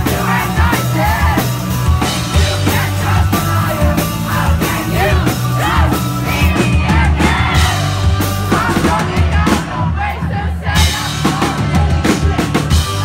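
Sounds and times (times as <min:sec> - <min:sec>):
live rock band: 0:00.0 - 0:13.0.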